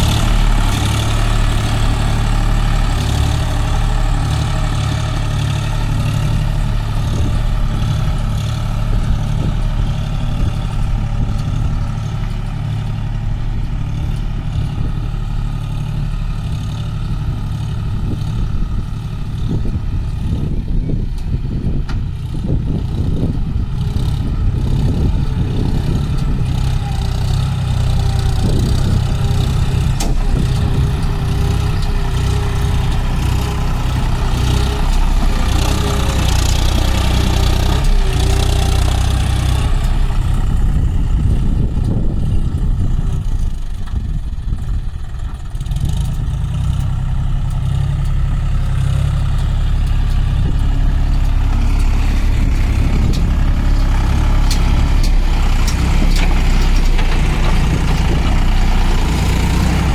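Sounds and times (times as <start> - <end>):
dozer blade pushing soil: 0.0 - 44.0, 45.4 - 59.9
tractor diesel engine running: 0.0 - 59.9.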